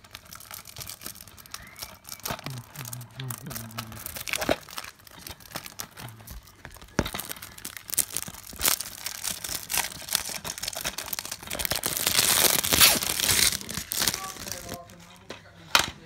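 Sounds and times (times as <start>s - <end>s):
plastic wrapping crinkling and tearing: 0.0s - 15.3s.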